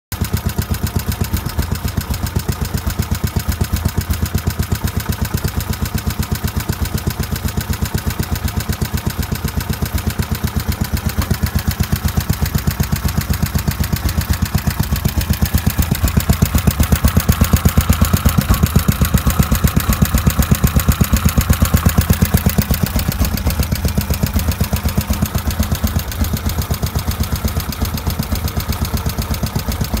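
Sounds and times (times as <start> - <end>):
small engine running: 0.2 - 30.0.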